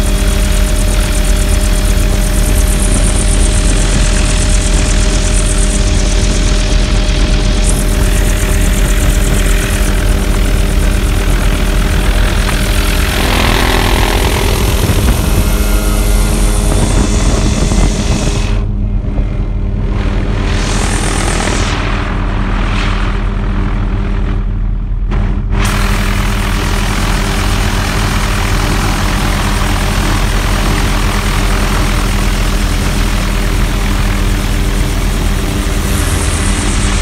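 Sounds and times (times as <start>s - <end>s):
helicopter engine and rotor: 0.0s - 37.0s.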